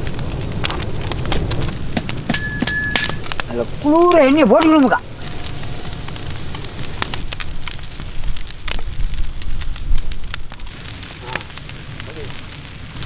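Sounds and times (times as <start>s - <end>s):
fire crackling and sizzling: 0.0s - 13.0s
sharp pops: 0.6s - 12.4s.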